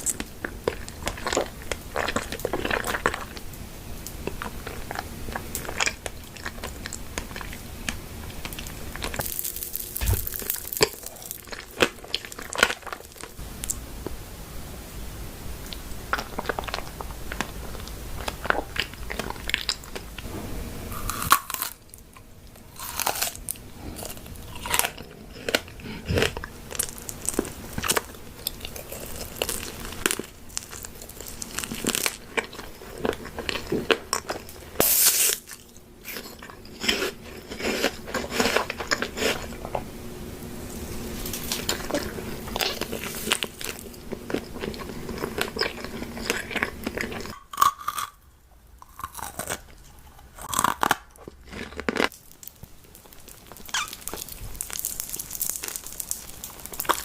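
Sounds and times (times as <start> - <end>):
crunchy food chewing: 0.0 - 13.8, 15.7 - 39.9, 40.6 - 48.2, 48.8 - 57.0.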